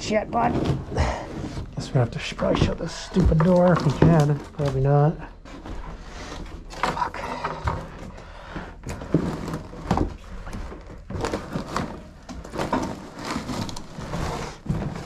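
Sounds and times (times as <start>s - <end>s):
scraping and rustling: 0.1s - 8.2s, 8.8s - 15.0s
wooden knocks and thumps: 0.4s - 15.0s.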